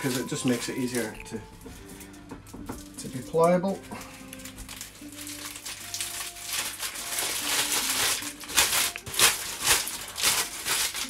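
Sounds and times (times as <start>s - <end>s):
paper being crumpled: 0.0s - 1.4s, 2.8s - 11.0s.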